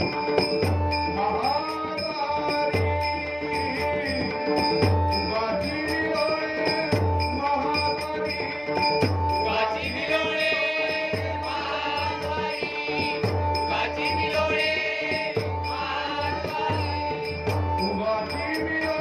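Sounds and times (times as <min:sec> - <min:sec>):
held pitched drone tones: 0:00.0 - 0:19.0.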